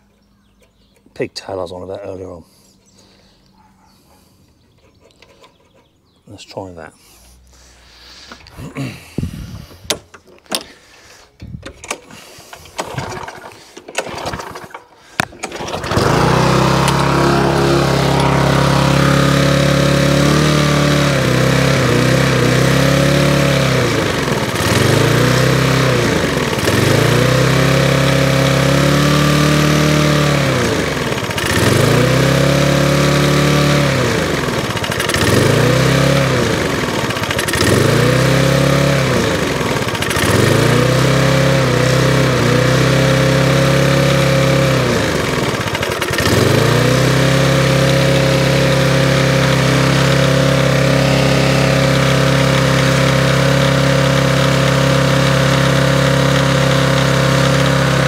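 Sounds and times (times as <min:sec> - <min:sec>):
lawnmower engine speed varying: 0:07.0 - 0:58.0.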